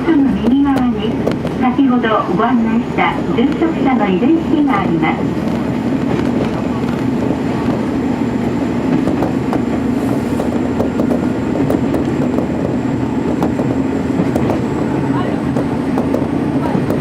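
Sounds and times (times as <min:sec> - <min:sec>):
train wheels ticking on track: 0:00.0 - 0:02.3, 0:03.0 - 0:17.0
diesel railcar engine drone: 0:00.0 - 0:17.0.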